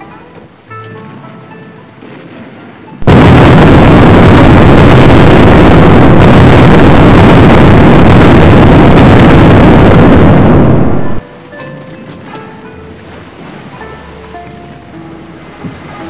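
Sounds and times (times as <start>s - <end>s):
ship hull rushing through water: 0.0s - 11.4s, 12.0s - 16.0s.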